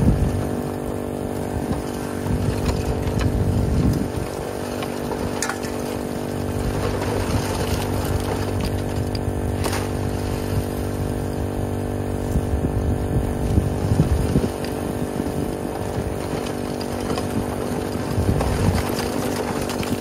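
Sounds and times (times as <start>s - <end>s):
water pump engine running: 0.0s - 20.0s.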